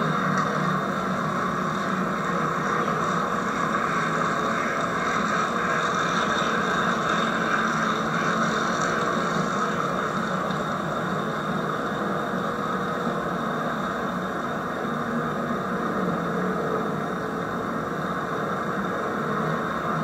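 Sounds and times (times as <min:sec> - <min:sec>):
model trains running on track: 0:00.0 - 0:20.0
tape hiss: 0:00.0 - 0:20.0.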